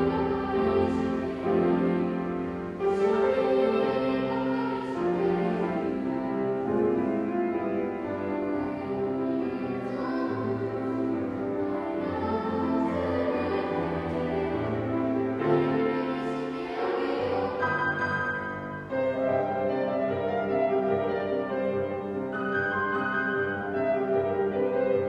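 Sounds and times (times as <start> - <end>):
choral song with instruments: 0.0 - 25.0.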